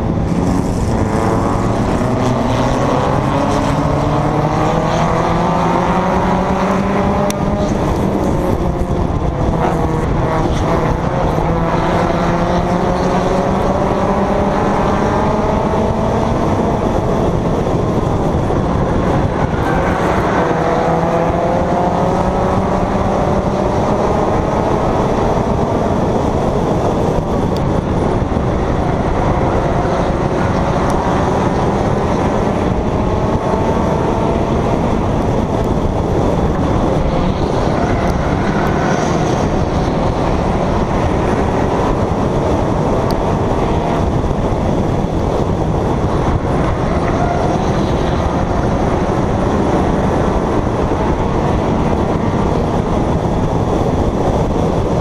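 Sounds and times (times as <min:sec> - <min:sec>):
other race cars: 0:00.0 - 0:55.0
race car engine running hard: 0:00.0 - 0:55.0
wind noise: 0:00.0 - 0:55.0.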